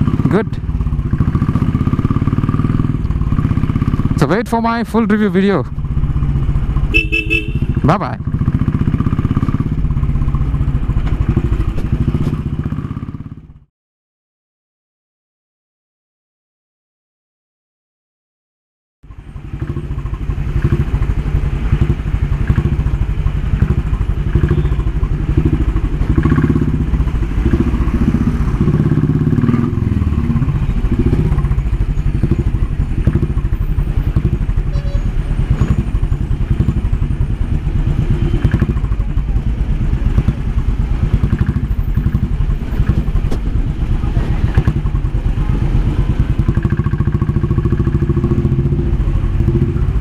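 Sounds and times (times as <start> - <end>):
motorcycle engine thumping exhaust: 0.0 - 4.5, 5.7 - 13.7, 19.0 - 50.0.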